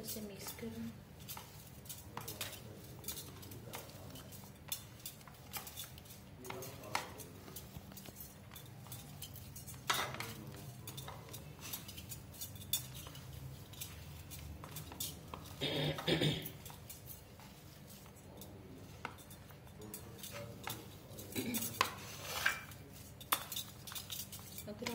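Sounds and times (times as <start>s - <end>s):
bangles clinking: 0.0s - 24.9s.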